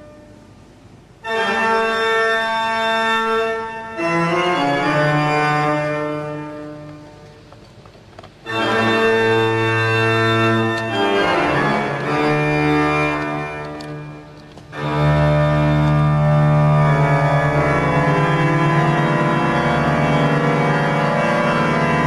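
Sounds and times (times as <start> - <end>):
pipe organ playing: 0.0 - 22.0.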